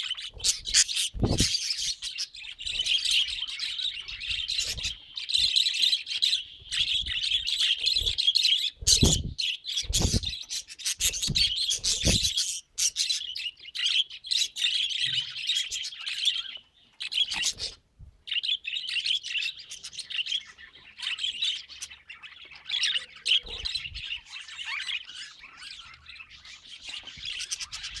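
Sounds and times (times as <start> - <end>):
budgerigar chattering and warbling: 0.0 - 13.4, 17.2 - 17.8, 19.1 - 28.0.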